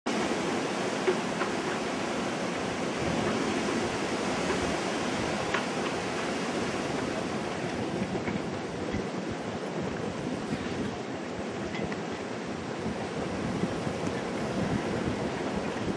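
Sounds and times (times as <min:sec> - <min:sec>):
gale wind rushing: 0:00.1 - 0:15.9
waves on water: 0:00.1 - 0:15.9.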